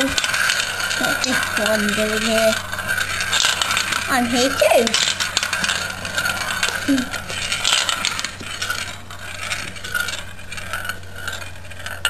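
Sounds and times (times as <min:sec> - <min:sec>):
marbles rolling on plastic track: 0:00.0 - 0:12.0.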